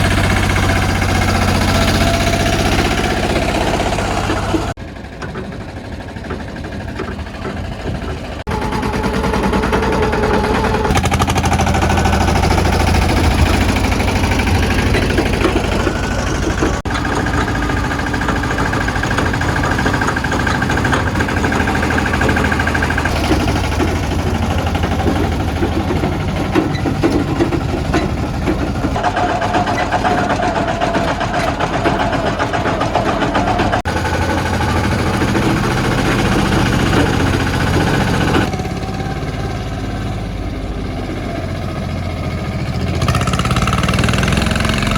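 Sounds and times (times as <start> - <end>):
small tractor engine running: 0.0 - 44.9.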